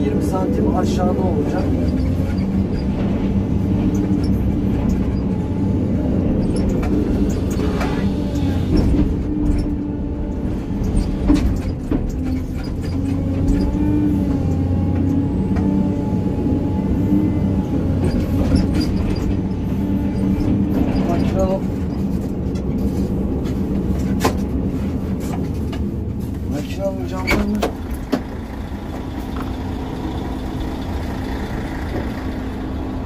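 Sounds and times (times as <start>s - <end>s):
excavator diesel engine running: 0.0s - 33.0s
hydraulics working: 0.0s - 33.0s.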